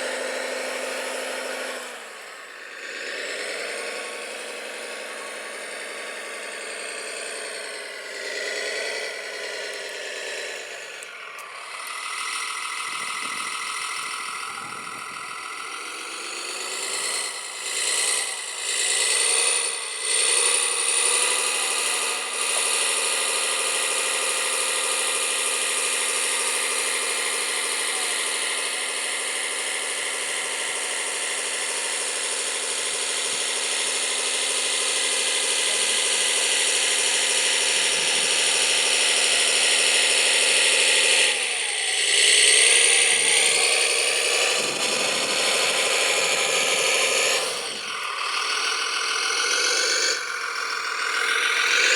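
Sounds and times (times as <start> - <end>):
model motor whining: 0.0 - 51.9.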